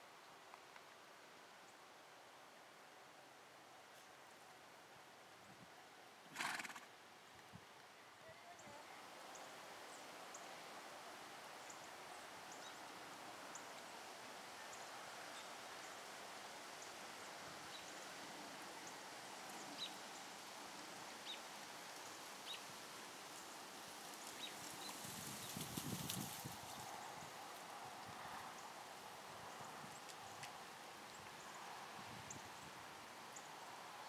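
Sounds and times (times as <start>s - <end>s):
faint outdoor background hiss: 0.0s - 34.0s.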